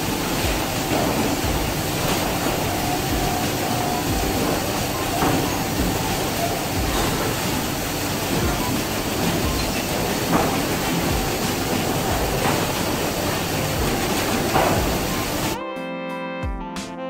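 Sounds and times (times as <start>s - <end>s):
factory machinery rumbling: 0.0s - 15.6s.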